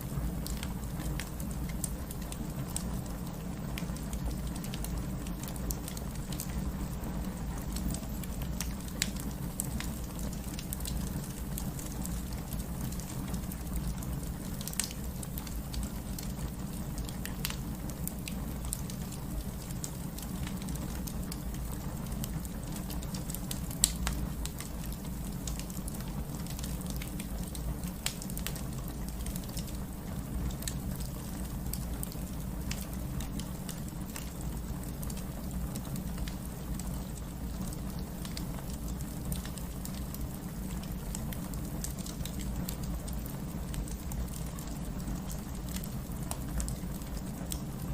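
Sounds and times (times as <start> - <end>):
rain pattering: 0.0 - 47.9
wood fire crackling and popping: 0.0 - 47.9.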